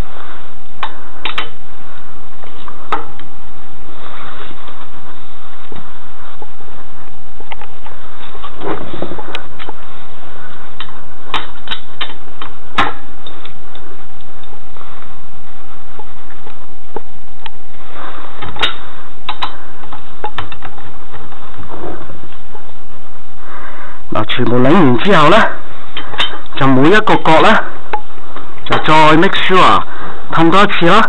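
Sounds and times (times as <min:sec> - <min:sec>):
thin steady hum: 0:00.0 - 0:31.0.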